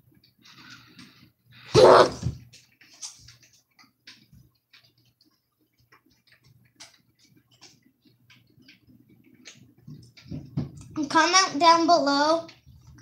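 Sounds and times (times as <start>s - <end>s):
small clicks and rustles: 0.1s - 1.4s, 2.4s - 13.0s.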